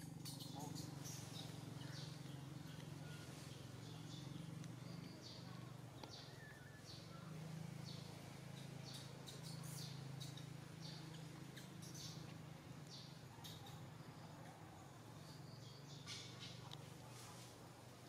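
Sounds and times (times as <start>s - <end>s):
low steady hum: 0.0s - 18.0s
small birds chirping: 0.0s - 18.0s.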